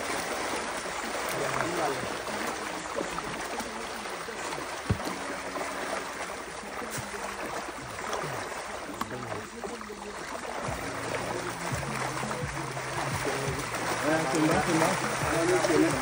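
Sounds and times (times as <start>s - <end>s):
water splashing and churning: 0.0s - 16.0s.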